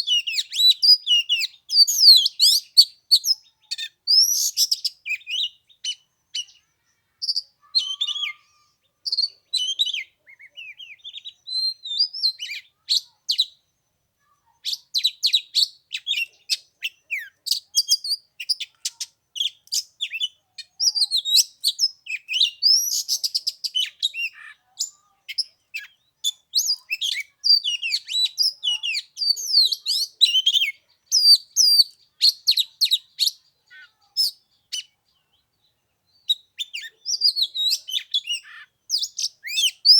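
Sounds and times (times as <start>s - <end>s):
bird singing varied whistles: 0.0s - 8.4s, 9.0s - 13.6s, 14.6s - 35.0s, 36.1s - 39.9s.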